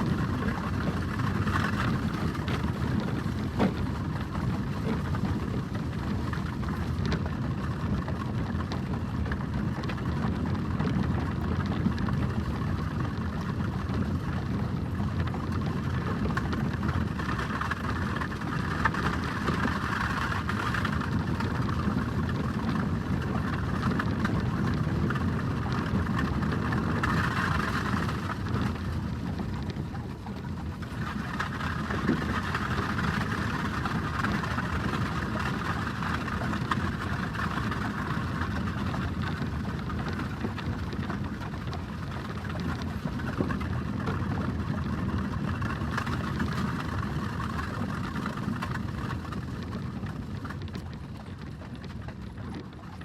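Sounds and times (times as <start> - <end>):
carriage wheels rumbling and rattling: 0.0 - 53.0.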